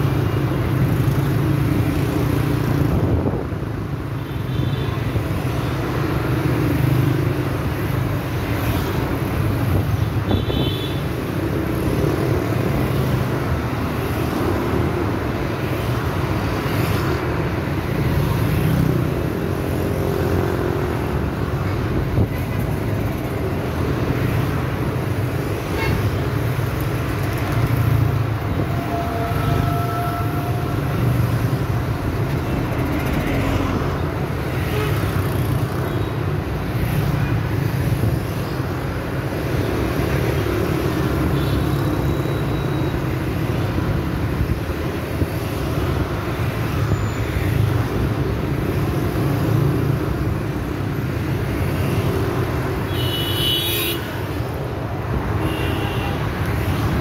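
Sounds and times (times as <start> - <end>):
scooters and cars passing: 0.0 - 57.0.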